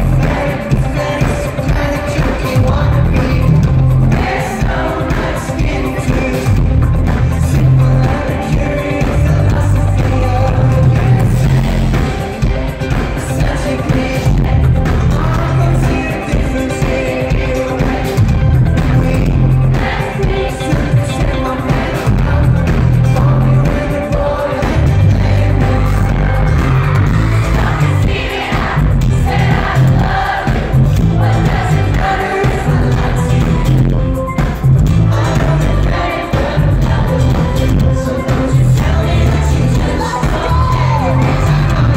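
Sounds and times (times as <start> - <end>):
drums: 0.0 - 41.9
electric guitar: 0.0 - 41.9
heavy bass: 0.0 - 41.9
keyboards: 0.0 - 41.9
lead vocals: 0.0 - 41.9
live pop rock band playing: 0.0 - 41.9
singer singing into microphone: 0.0 - 41.9.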